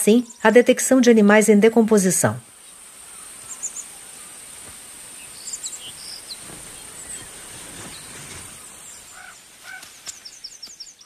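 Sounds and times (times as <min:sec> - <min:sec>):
bird chirps: 0:00.0 - 0:00.8, 0:02.6 - 0:11.0.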